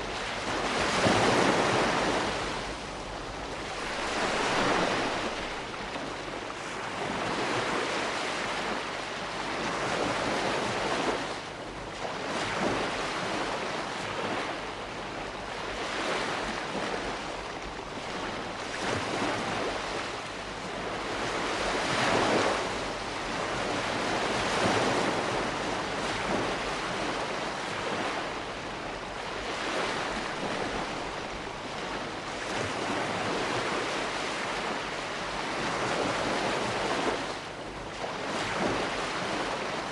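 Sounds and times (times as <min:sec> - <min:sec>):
gentle waves on shore: 0:00.0 - 0:39.9.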